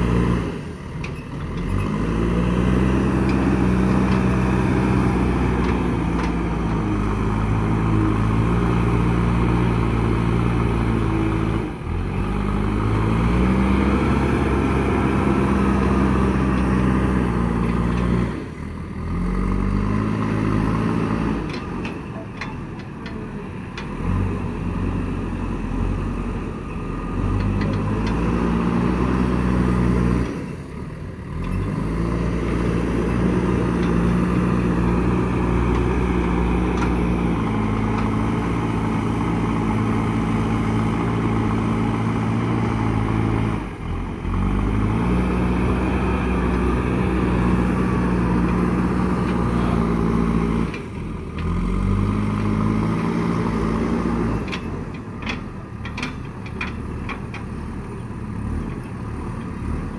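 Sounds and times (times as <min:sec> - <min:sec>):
diesel engine revving under load: 0:00.0 - 0:59.9.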